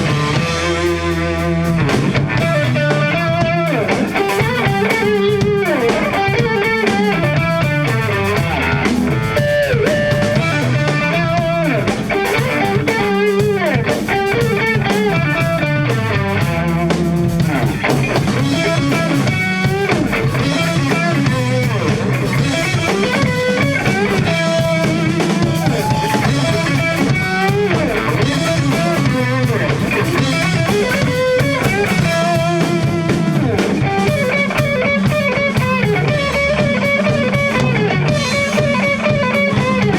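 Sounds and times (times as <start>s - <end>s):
bass guitar: 0.0s - 39.9s
drum kit: 0.0s - 39.9s
electric guitar lines: 0.0s - 39.9s.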